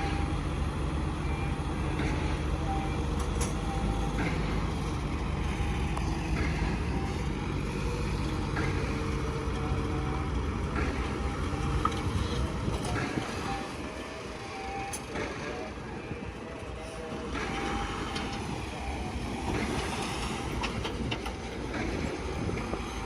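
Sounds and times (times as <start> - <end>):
diesel machinery engine rumble: 0.0 - 23.0.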